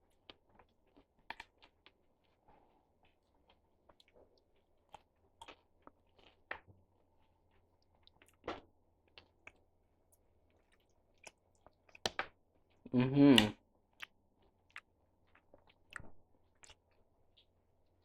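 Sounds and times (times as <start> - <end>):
faint chewing crunches: 0.0 - 18.0.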